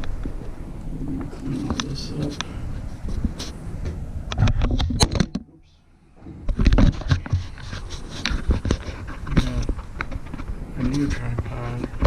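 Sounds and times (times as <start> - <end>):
handling clicks knocks and scrapes: 1.2 - 5.4, 6.4 - 12.0.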